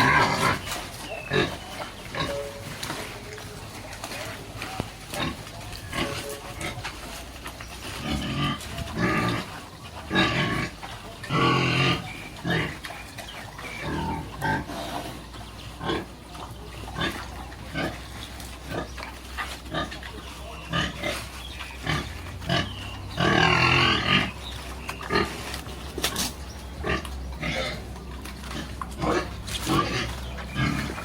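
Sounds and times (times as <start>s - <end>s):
pigs grunting: 0.0s - 31.0s.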